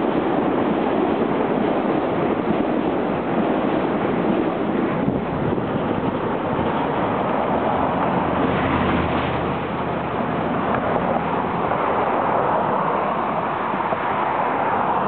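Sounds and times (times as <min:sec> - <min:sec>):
electric train rolling past: 0:00.0 - 0:15.0.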